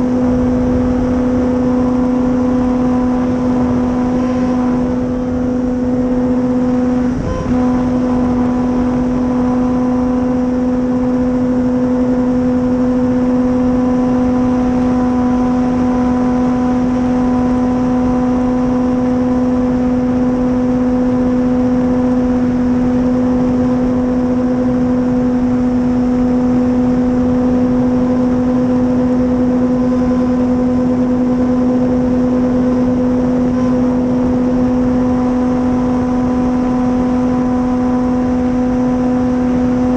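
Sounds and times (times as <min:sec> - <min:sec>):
electric motor and propeller buzzing: 0:00.0 - 0:39.9
rushing wind noise: 0:00.0 - 0:39.9.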